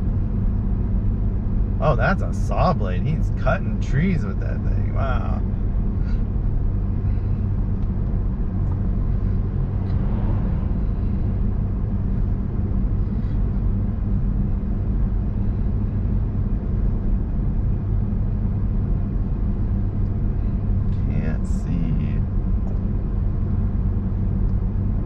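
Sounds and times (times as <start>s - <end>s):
engine and tyre drone: 0.0s - 25.0s
road noise: 0.0s - 25.0s.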